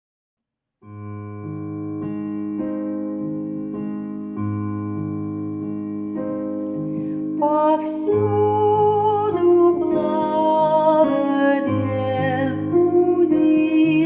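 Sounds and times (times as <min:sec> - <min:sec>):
keyboard playing held chords: 0:00.9 - 0:14.0.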